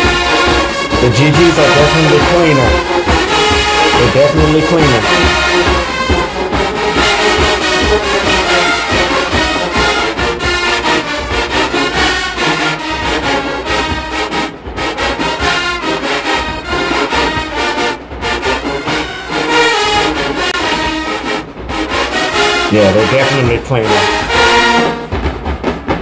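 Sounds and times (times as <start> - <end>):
brass marching band playing: 0.0 - 26.0.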